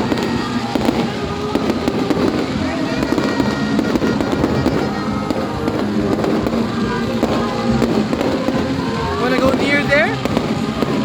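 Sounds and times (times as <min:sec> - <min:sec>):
fireworks bangs: 0:00.0 - 0:11.0
music playing: 0:00.0 - 0:11.0.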